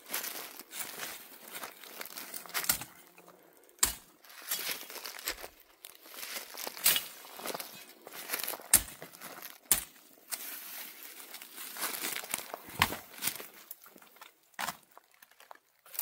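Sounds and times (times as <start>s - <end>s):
debris crunching underfoot: 0.0s - 16.0s.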